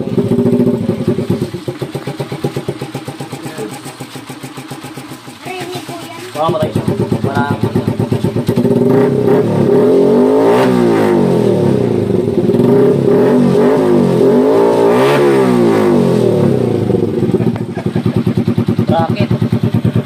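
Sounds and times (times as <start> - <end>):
motorcycle engine revving and idling: 0.0 - 20.0.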